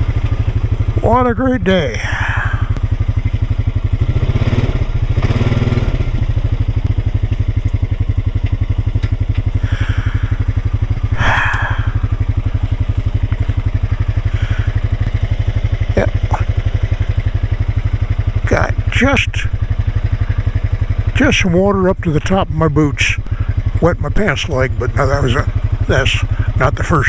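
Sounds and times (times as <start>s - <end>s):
small vehicle engine idling: 0.0s - 27.0s.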